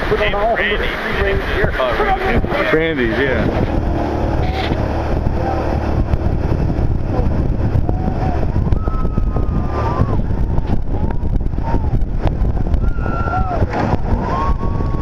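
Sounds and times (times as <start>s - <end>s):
low engine rumble: 0.0s - 15.0s
wind buffeting microphone: 0.0s - 15.0s.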